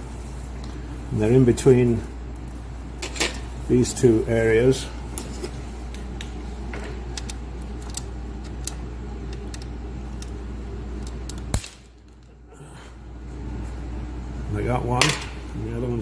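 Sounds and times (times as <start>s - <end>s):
low shop hum: 0.0s - 16.0s.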